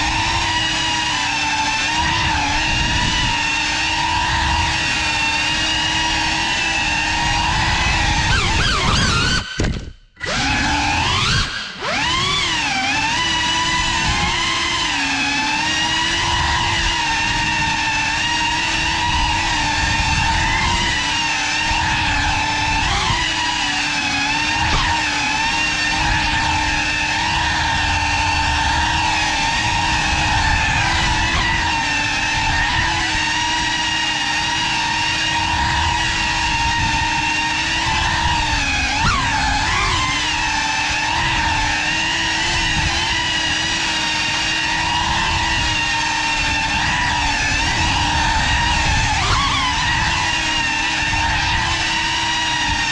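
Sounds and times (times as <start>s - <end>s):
drone motors buzzing: 0.0s - 52.9s
pitched motor whine: 0.0s - 52.9s.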